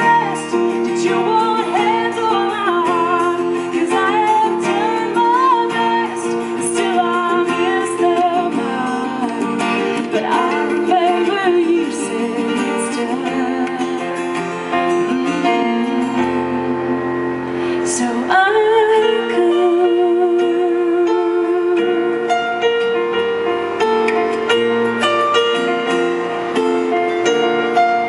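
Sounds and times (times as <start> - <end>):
woman singing a slow ballad: 0.0 - 22.8
acoustic guitar: 0.0 - 28.0.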